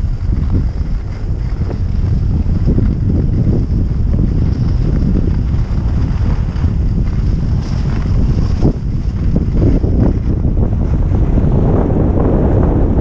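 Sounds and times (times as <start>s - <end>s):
skis sliding over snow: 0.0s - 11.6s
wind buffeting microphone: 0.0s - 13.0s.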